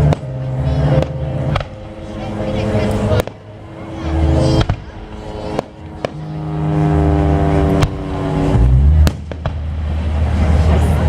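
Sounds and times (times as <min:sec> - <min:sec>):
fireworks bangs: 0:00.0 - 0:10.0
low droning tone: 0:00.0 - 0:11.0.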